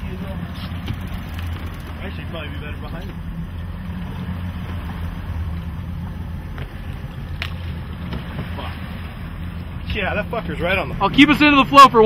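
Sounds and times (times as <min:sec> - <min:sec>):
boat engines humming: 0:00.0 - 0:12.0
water noise: 0:00.0 - 0:12.0
wind: 0:00.0 - 0:12.0.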